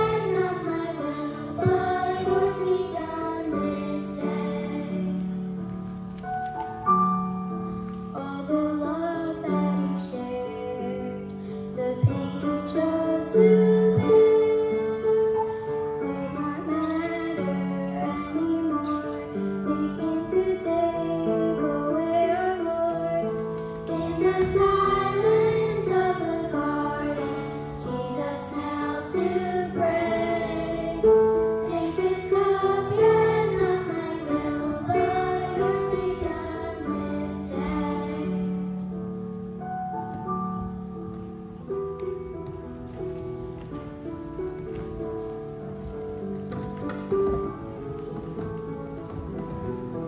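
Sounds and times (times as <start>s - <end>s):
held instrumental accompaniment: 0.0s - 50.0s.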